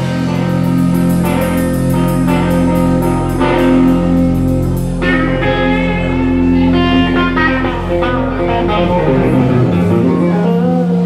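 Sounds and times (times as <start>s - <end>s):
drum kit: 0.0s - 11.0s
electric guitars: 0.0s - 11.0s.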